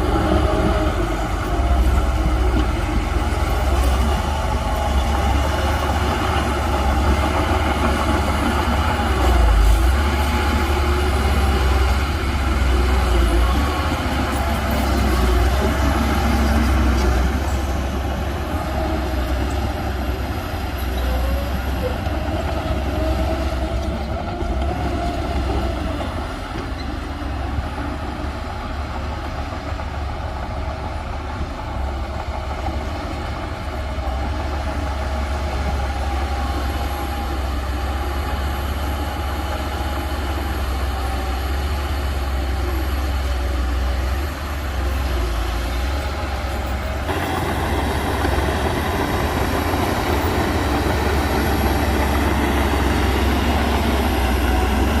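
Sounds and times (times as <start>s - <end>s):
heavy machinery engine drone: 0.0s - 55.0s.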